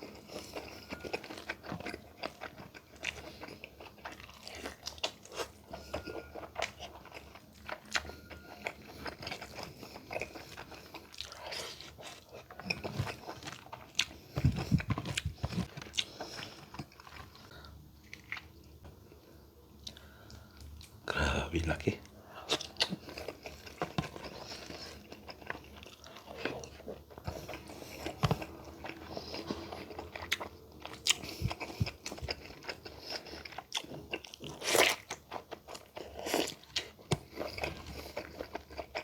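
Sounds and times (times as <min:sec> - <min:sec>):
chewing with small crunches: 0:00.0 - 0:21.0, 0:21.8 - 0:39.0.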